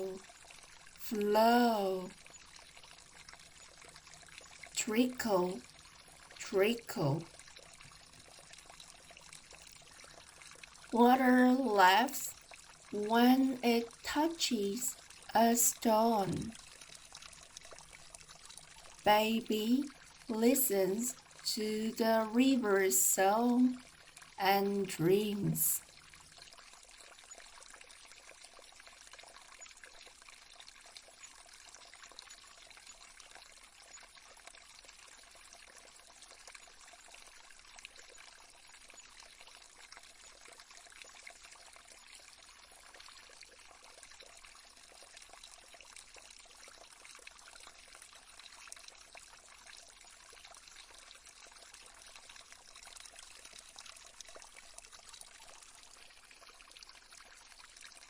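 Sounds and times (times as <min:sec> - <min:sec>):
faint stream trickling: 0:00.0 - 0:58.0.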